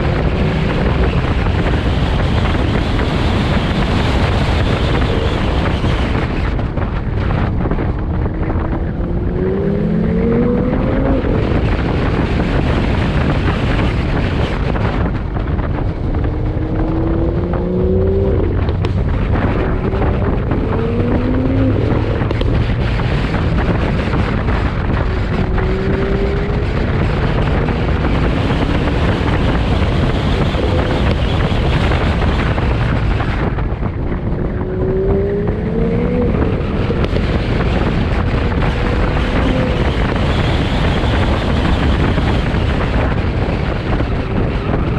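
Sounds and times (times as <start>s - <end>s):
car engine accelerating: 0.0s - 44.9s
wind noise on microphone: 0.0s - 44.9s.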